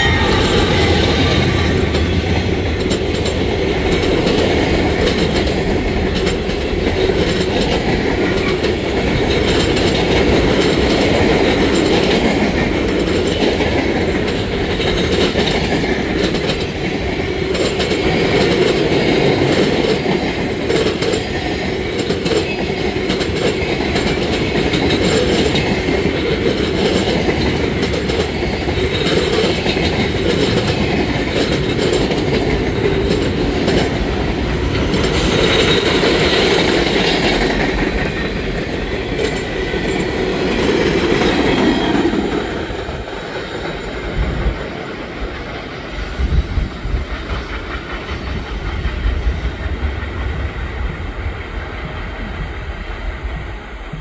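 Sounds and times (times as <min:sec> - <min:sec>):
clickety-clack at rail joints: 0:00.0 - 0:54.0
train wheels rumbling on rails: 0:00.0 - 0:54.0.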